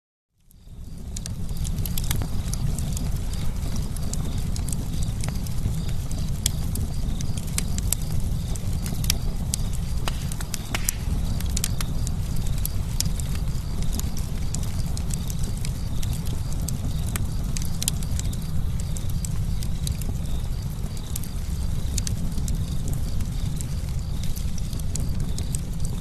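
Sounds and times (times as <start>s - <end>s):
campfire crackling: 0.4s - 26.0s.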